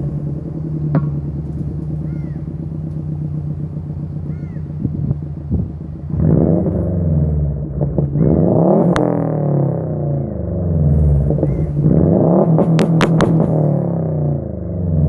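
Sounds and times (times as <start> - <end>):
car engine revving: 0.0 - 15.0
exhaust cracks: 0.0 - 15.0.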